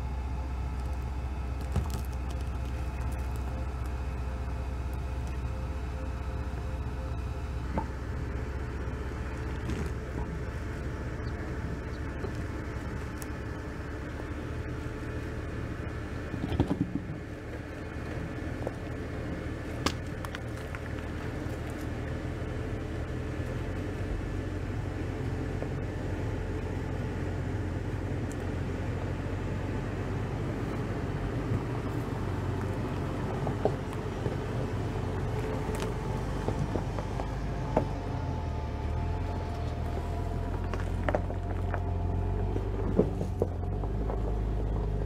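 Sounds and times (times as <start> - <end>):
truck engine low hum: 0.0 - 45.0.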